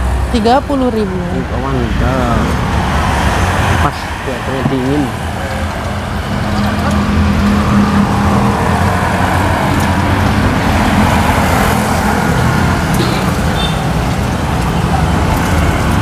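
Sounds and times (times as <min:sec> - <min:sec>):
engine drone: 0:00.0 - 0:16.0
road traffic noise: 0:00.0 - 0:16.0.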